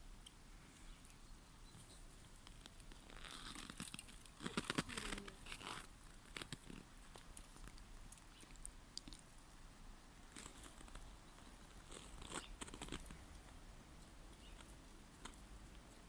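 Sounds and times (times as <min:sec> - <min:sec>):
squirrel gnawing food: 0:02.2 - 0:09.6, 0:10.3 - 0:16.0.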